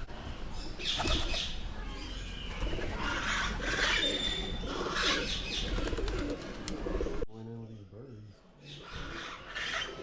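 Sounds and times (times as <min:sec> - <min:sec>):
harsh bird calls: 0:00.6 - 0:10.0.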